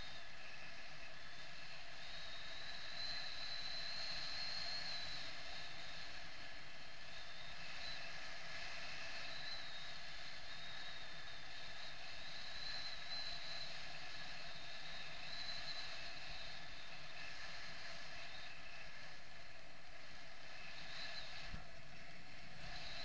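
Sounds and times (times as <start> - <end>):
thin high whistle: 0.0 - 23.0
wind rushing over camera: 0.0 - 23.0.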